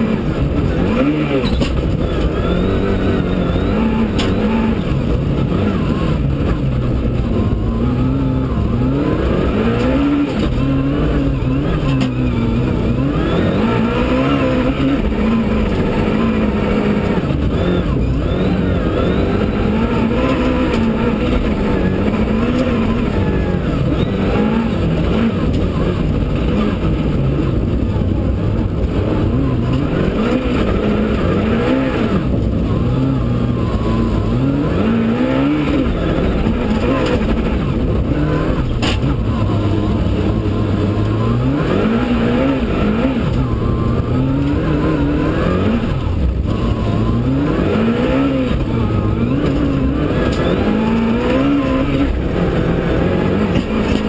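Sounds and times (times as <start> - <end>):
rally car engine revving: 0.0 - 54.0
tyre and road noise: 0.0 - 54.0.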